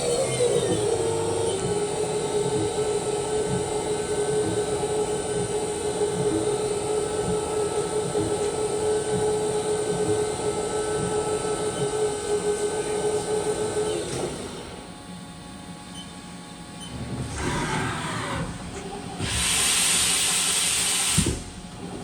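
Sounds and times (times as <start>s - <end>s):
low mechanical hum: 0.0s - 22.0s
machining spindle whine: 0.0s - 22.0s.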